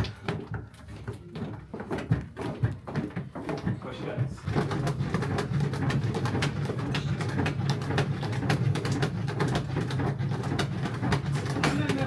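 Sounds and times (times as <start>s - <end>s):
paddle knocking and scraping pot: 0.0s - 12.0s
thick mixture churning: 0.0s - 12.0s.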